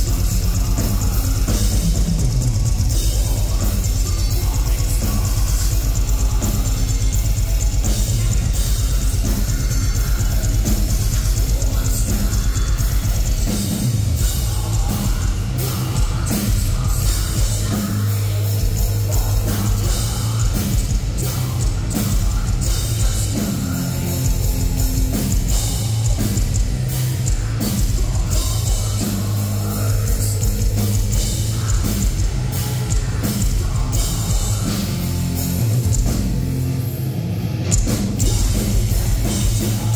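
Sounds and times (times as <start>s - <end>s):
heavy metal band playing live: 0.0s - 39.9s.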